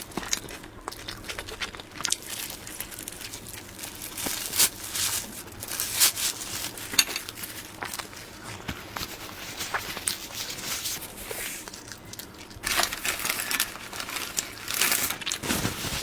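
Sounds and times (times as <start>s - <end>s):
rustling squishing eating noises: 0.0s - 16.0s.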